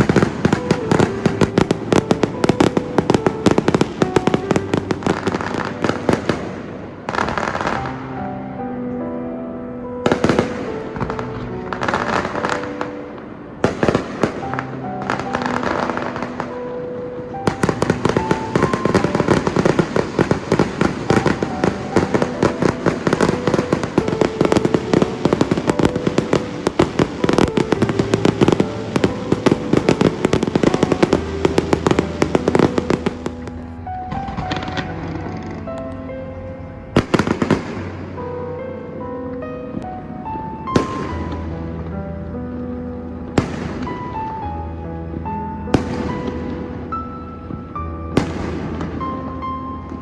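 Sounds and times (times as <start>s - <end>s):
fireworks bangs and crackles: 0.0s - 8.1s, 10.0s - 36.0s, 37.0s - 38.3s, 40.6s - 41.9s, 43.3s - 44.5s, 45.2s - 50.0s.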